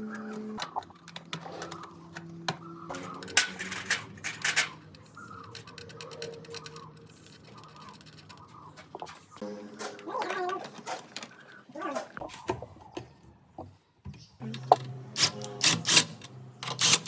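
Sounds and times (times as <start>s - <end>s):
tools clicking and clinking: 0.0s - 11.4s, 14.6s - 17.0s.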